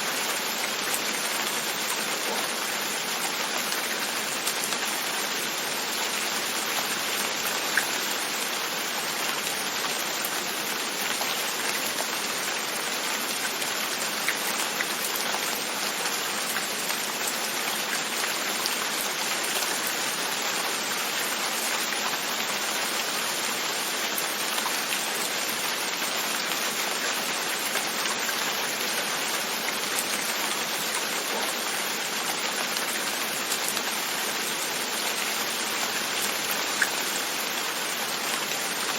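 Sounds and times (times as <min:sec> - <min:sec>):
rain on a window: 0:00.0 - 0:38.9.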